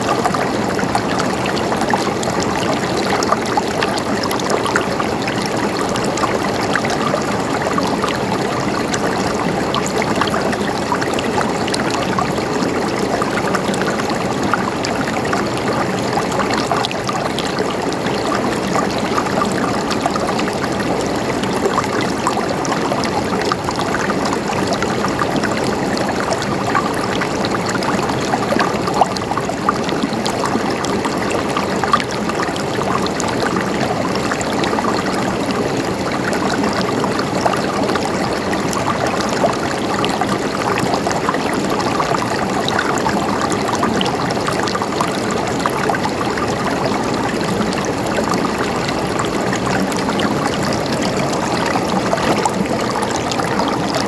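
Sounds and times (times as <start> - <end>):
water gurgling and trickling: 0.0 - 54.0.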